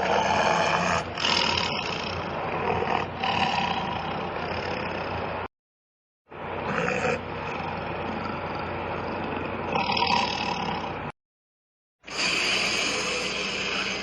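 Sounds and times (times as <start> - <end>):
bright hissy growl: 0.0 - 5.4, 6.6 - 11.0, 12.1 - 14.0
noisy unpitched growl: 0.0 - 5.5, 6.5 - 11.1, 12.1 - 14.0.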